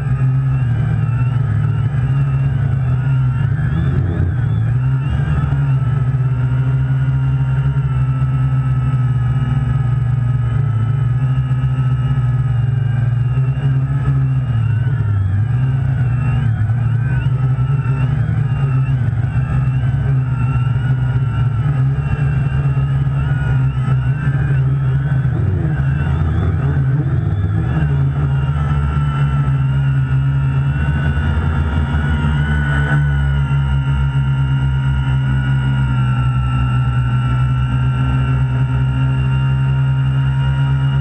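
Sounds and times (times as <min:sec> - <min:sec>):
drone propellers whining: 0:00.0 - 0:41.0
strong low hum: 0:00.0 - 0:41.0.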